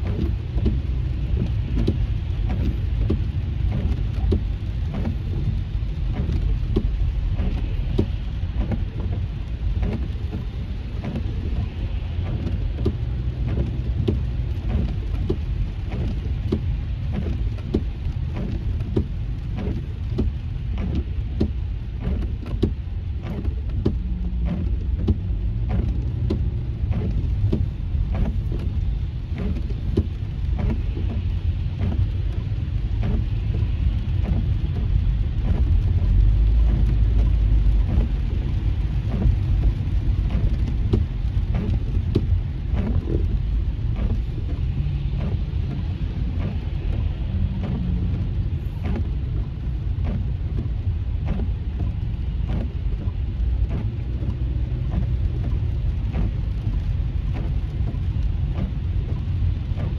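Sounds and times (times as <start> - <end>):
heavy rain on car windshield: 0.0 - 59.9
tyres rumbling on wet road: 0.0 - 59.9.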